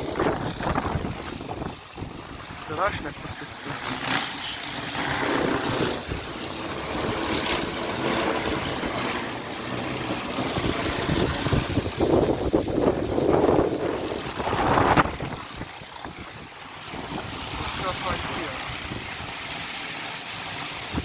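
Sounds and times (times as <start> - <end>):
wind buffeting microphone: 0.0 - 19.7, 20.4 - 21.0.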